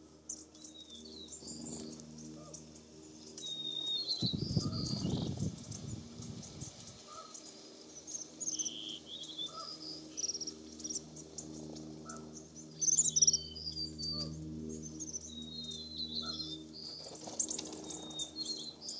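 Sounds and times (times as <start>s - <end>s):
birds twittering: 0.0s - 18.9s
low steady hum: 0.0s - 18.9s.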